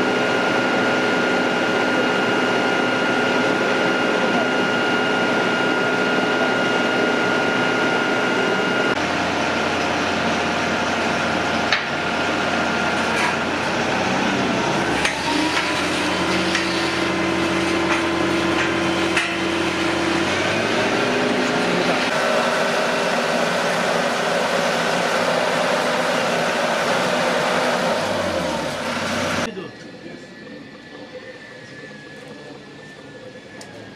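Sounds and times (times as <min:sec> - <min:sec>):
travel lift engine whining: 0:00.0 - 0:33.9.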